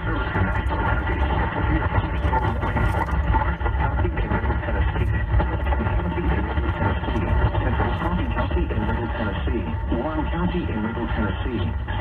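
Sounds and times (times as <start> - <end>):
am radio static: 0.0 - 12.0.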